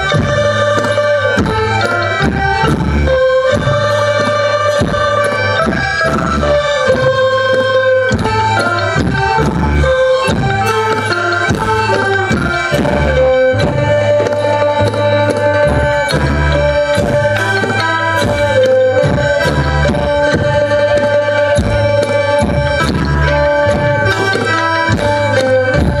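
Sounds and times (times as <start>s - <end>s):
drums beating steady rhythm: 0.0s - 26.0s
held-note folk melody: 0.0s - 26.0s.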